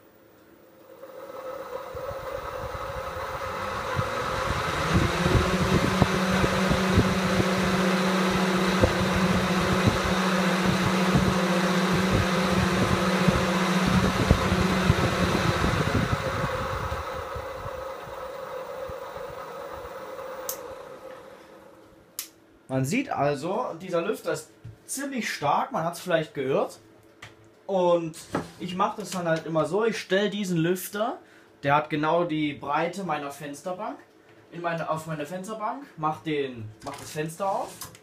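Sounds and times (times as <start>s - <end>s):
electric cooling fans rushing: 0.6s - 38.0s.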